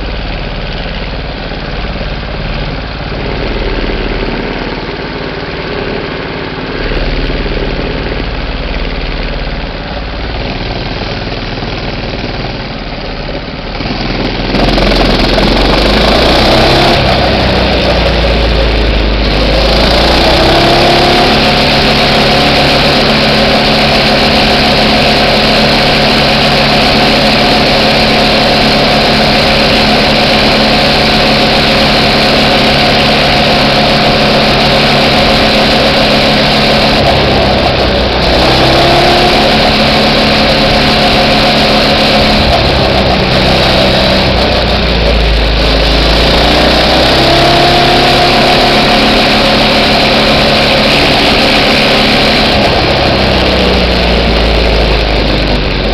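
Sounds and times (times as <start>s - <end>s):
heavy rushing noise: 0.0s - 10.6s, 13.1s - 55.9s
small engine running loudly: 0.0s - 55.9s.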